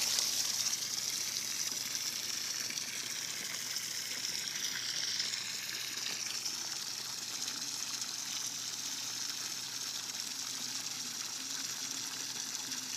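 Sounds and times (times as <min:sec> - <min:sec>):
water gushing into water: 0:00.0 - 0:12.9.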